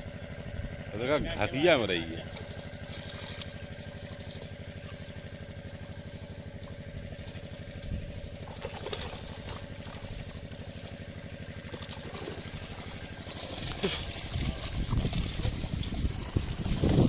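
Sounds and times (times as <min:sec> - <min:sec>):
small engine running steadily: 0:00.0 - 0:17.0
water splashes: 0:01.9 - 0:06.4, 0:07.1 - 0:17.0.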